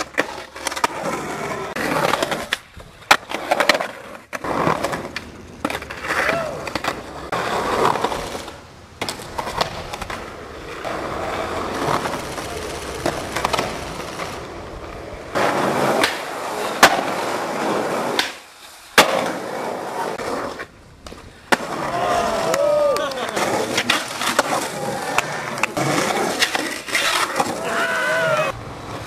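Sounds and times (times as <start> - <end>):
skateboard clacks: 0.0 - 29.0
skateboard wheels rolling on concrete: 0.0 - 29.0.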